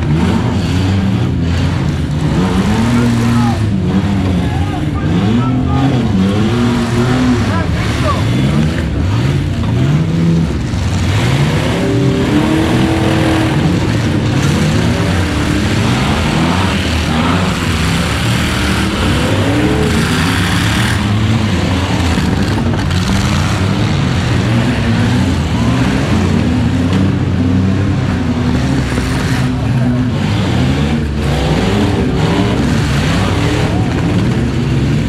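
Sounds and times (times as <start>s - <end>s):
truck engines revving: 0.0s - 35.0s.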